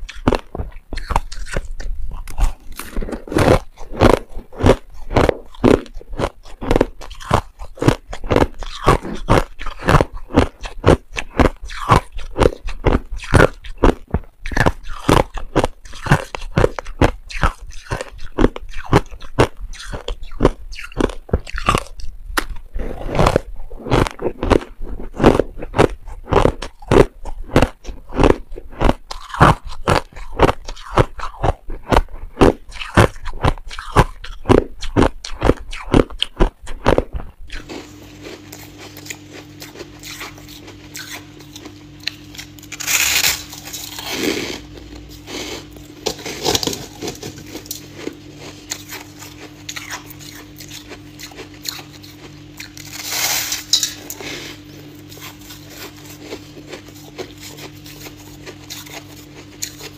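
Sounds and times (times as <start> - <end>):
crunching ice chewing: 0.0 - 59.9
steady low hum: 0.0 - 59.9.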